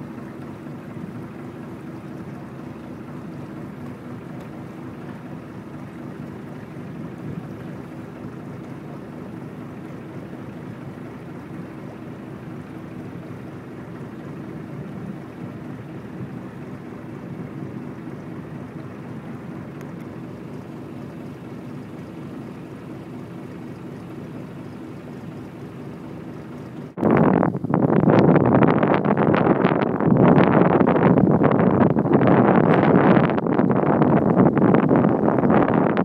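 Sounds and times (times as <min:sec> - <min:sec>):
faint steady hum: 0:00.0 - 0:36.0
water noise: 0:00.0 - 0:36.0
wind: 0:00.0 - 0:36.0.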